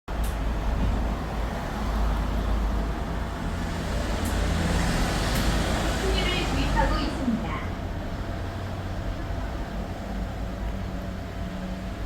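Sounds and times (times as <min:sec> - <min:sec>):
motor vehicle rumble: 0:00.1 - 0:12.0.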